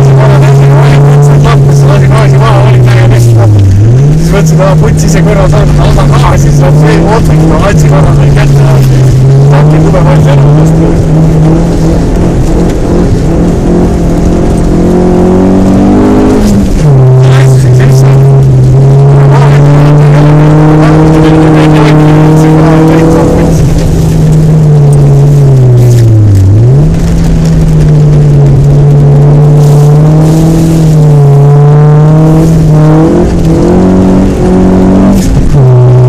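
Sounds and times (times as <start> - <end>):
car engine revving high: 0.0 - 36.0.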